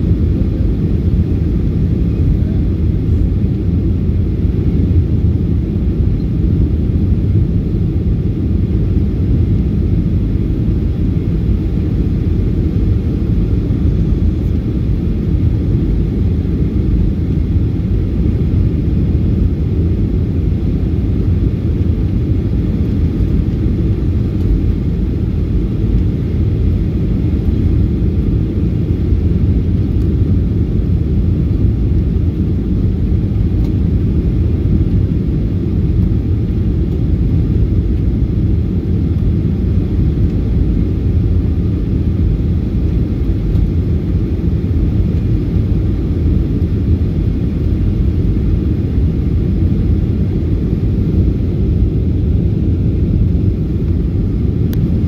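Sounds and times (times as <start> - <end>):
airflow over fuselage: 0.0 - 55.0
jet engine cabin rumble: 0.0 - 55.0.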